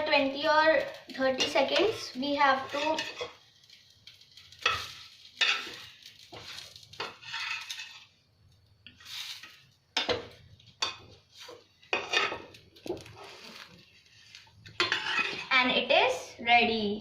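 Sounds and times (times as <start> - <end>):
metal utensil scraping frying pan: 0.8 - 8.2, 8.9 - 15.5.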